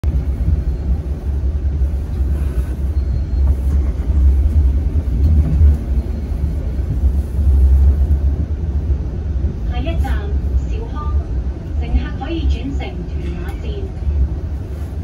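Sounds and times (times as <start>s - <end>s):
train rumbling inside passenger car: 0.0s - 15.0s.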